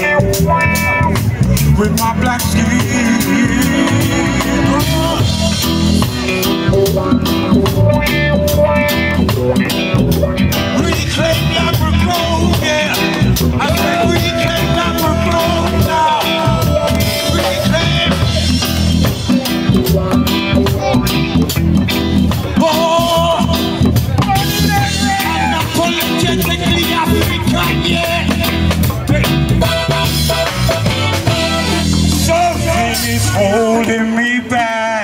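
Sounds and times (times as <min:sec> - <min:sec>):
person singing: 0:00.0 - 0:06.8, 0:10.6 - 0:21.6, 0:22.4 - 0:30.0, 0:31.2 - 0:35.0
reggae band playing: 0:00.0 - 0:35.0.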